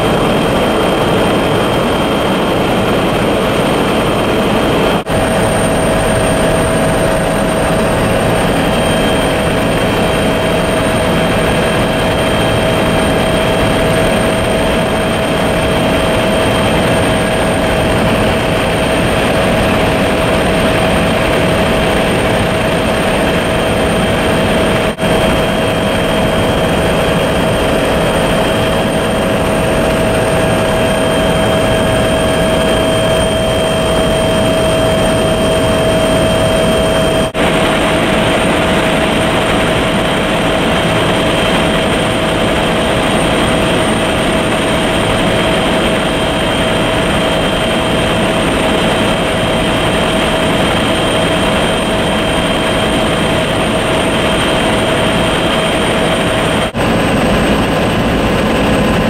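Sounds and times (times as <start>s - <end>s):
aircraft engine drone: 0.0s - 59.0s
constant high whine: 0.0s - 59.0s.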